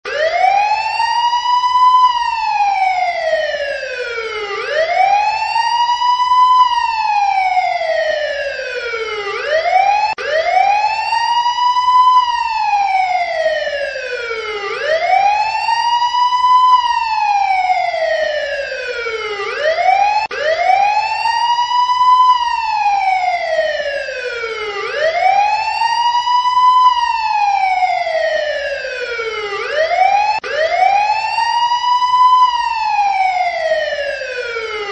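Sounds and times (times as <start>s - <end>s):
emergency vehicle siren wailing: 0.0s - 34.9s.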